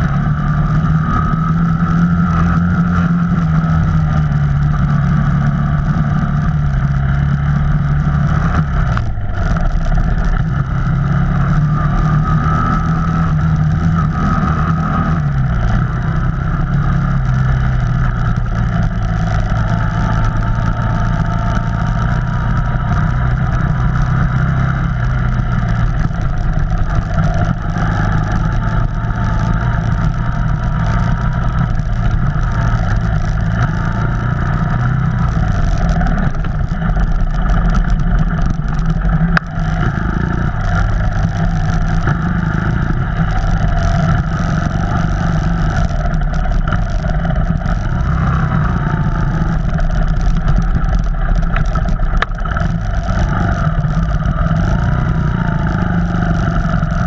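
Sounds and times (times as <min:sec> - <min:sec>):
off-road vehicle engine droning: 0:00.0 - 0:57.0.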